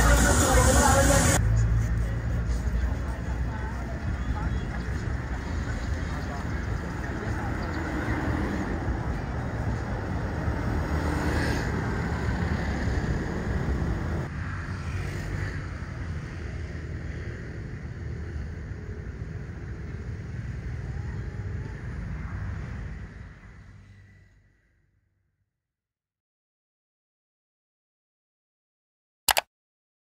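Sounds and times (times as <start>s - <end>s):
cars and motorbikes passing: 0.0s - 24.3s.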